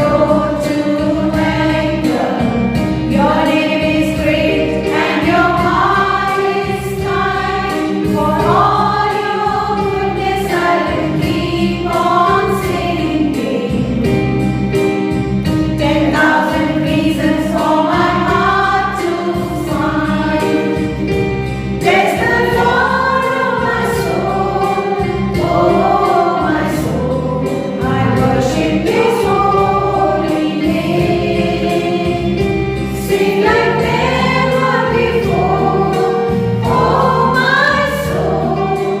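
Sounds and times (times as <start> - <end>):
choir singing: 0.0 - 14.5, 15.8 - 39.0
instrumental accompaniment: 0.0 - 39.0.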